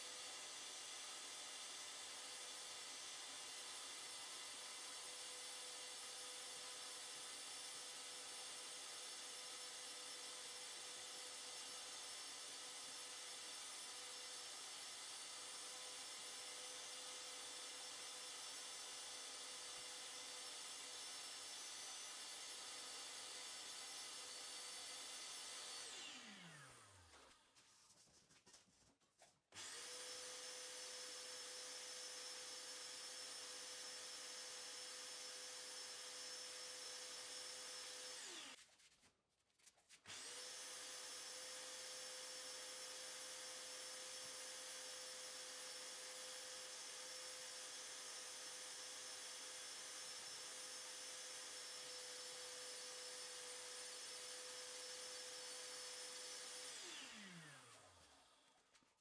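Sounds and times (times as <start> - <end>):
orbital sander running: 0.3 - 27.2, 29.6 - 38.6, 40.1 - 58.8.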